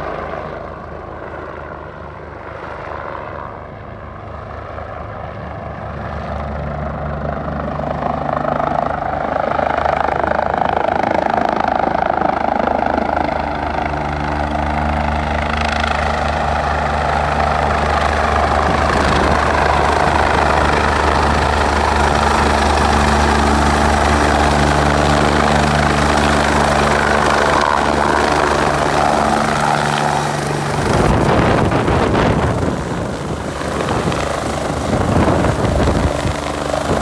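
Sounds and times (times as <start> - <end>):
helicopter rotor and turbines humming: 0.0 - 37.0.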